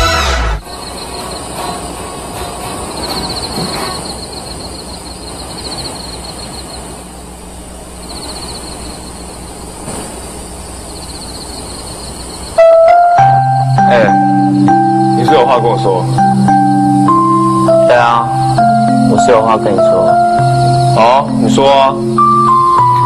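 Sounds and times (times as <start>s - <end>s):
insects trilling: 0.6s - 23.0s.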